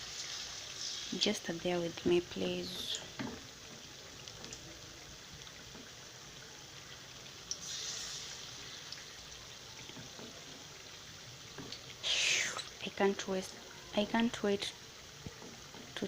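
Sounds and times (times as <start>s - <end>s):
potatoes sizzling in frying oil: 0.0s - 16.0s.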